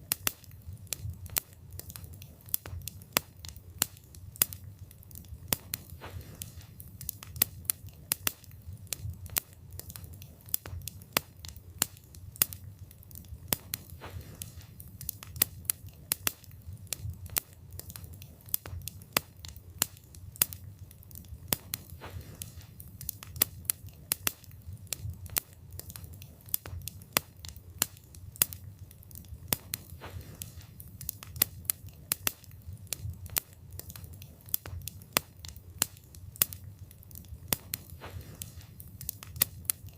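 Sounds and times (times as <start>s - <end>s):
low rumble of flames: 0.0s - 39.9s
wood crackling and snapping: 0.0s - 39.9s.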